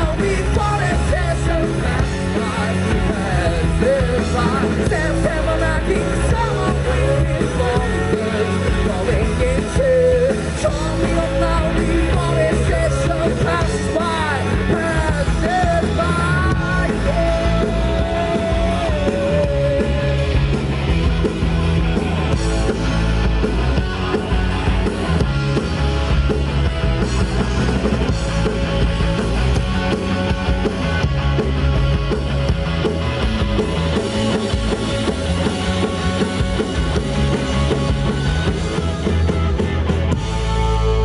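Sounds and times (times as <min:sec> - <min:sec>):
rock band playing: 0:00.0 - 0:41.0.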